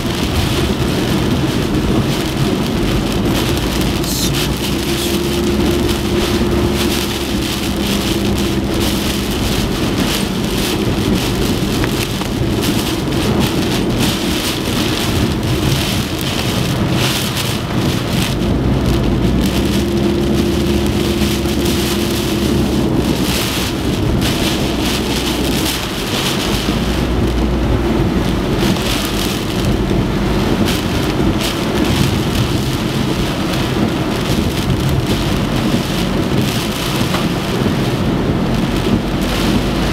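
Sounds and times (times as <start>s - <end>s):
heavy rain: 0.0s - 39.9s
low rumble: 0.0s - 39.9s
wind: 0.0s - 39.9s.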